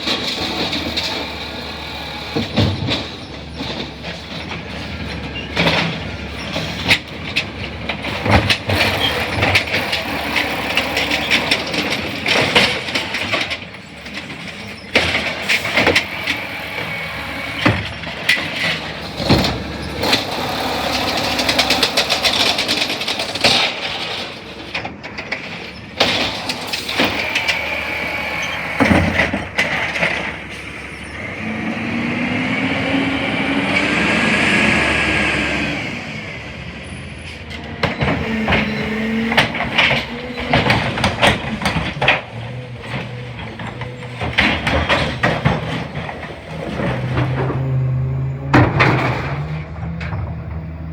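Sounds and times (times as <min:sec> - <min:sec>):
hydraulic whine: 0:00.0 - 0:06.9, 0:14.1 - 0:23.4, 0:25.6 - 0:50.9
trash dropping into truck: 0:00.0 - 0:34.2, 0:37.3 - 0:50.9
garbage truck clanks and bangs: 0:00.0 - 0:50.9
truck engine running: 0:00.0 - 0:50.9.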